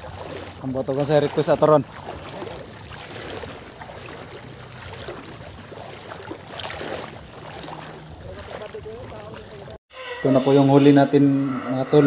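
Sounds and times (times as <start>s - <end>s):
water lapping: 0.0s - 9.8s
wind: 0.0s - 12.0s.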